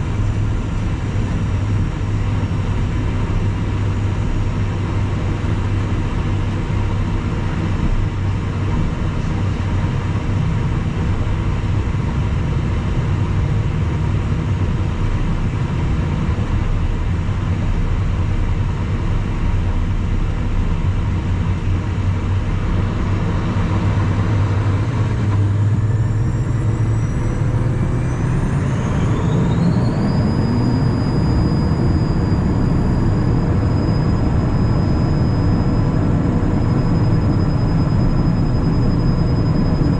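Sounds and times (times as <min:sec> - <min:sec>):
engine whine rising in pitch: 0:00.0 - 0:39.9
jet engine cabin rumble: 0:00.0 - 0:39.9.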